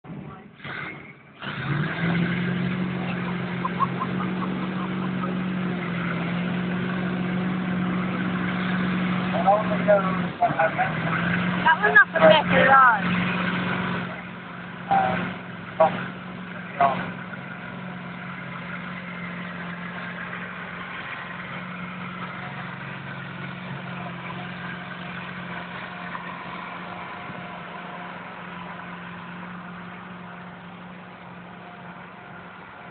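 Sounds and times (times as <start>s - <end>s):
diesel tractor engine under load: 0.0s - 32.9s.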